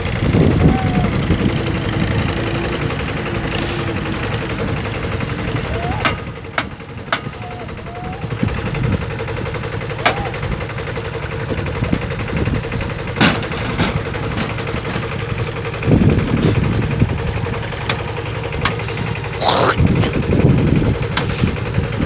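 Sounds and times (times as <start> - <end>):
tractor diesel engine knocking: 1.2 - 19.3.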